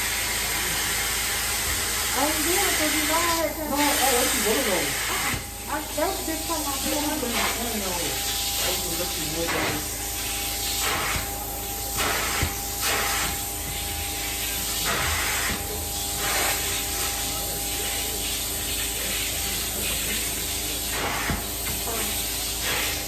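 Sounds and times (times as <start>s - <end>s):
cleaning wand spraying and sucking: 0.0s - 23.0s.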